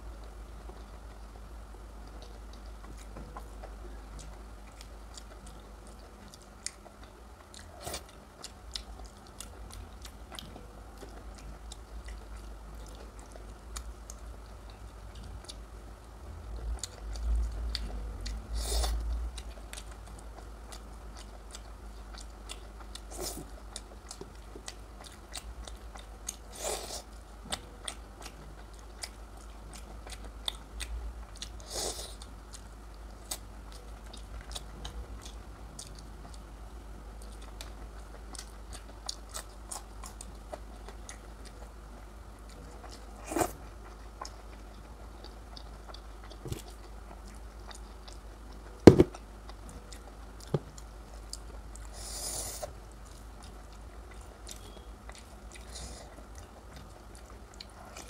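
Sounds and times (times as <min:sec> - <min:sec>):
person chewing food: 0:02.0 - 0:36.5, 0:37.2 - 0:58.0.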